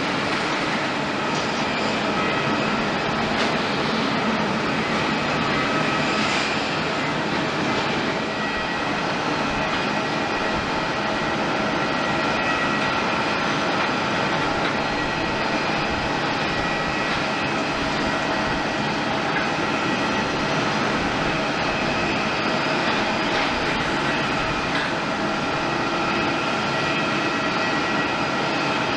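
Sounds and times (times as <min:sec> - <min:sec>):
jet engines running: 0:00.0 - 0:28.9.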